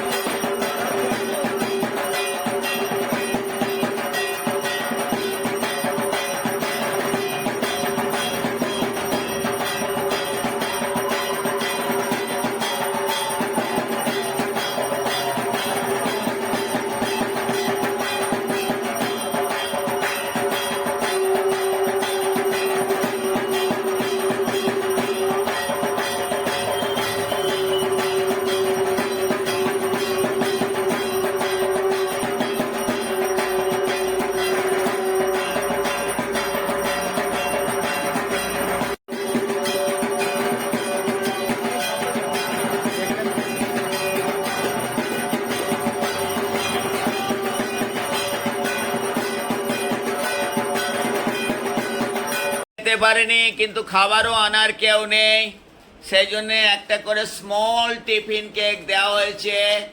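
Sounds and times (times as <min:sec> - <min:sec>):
music with a steady beat: 0:00.0 - 0:52.7.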